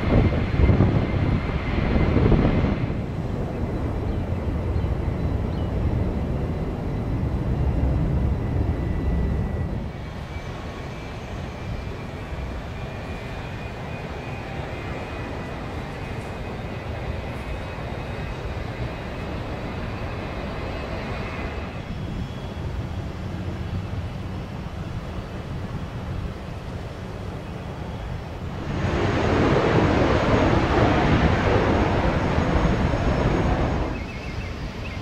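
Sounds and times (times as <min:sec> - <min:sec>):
faint high engine whine: 0:00.0 - 0:35.0
jet engines running: 0:00.0 - 0:35.0.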